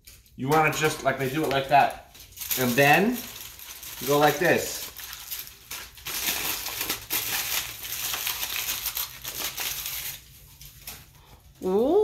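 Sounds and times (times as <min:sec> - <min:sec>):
wrapper crinkling: 0:00.0 - 0:11.5.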